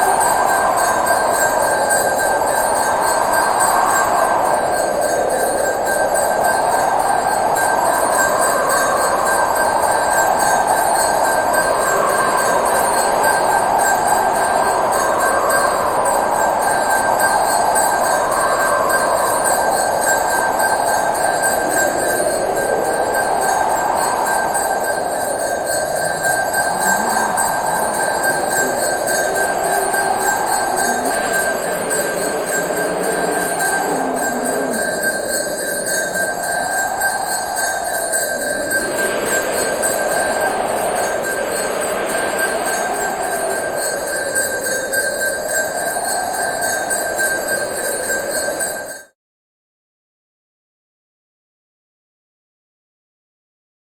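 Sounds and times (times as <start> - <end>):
hand bell ringing: 0.0 - 49.1.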